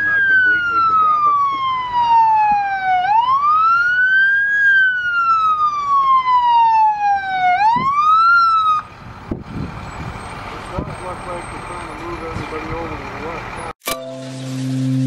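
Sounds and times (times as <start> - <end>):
emergency siren wailing: 0.0 - 13.7.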